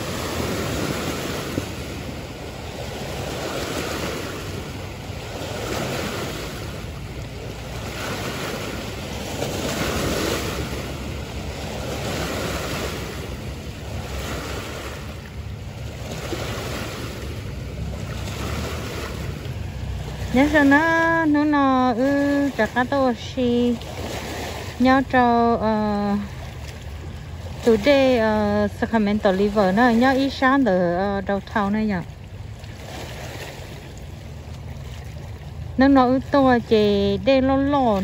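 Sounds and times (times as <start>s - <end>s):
waves washing against rocks: 0.0s - 38.0s.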